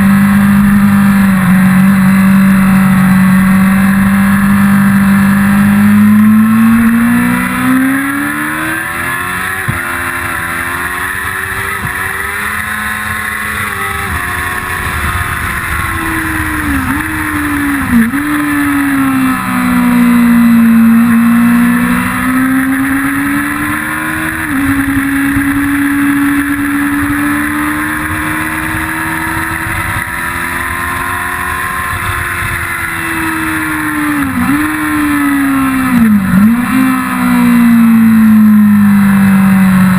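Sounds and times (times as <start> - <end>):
motorcycle engine revving at speed: 0.0 - 39.9.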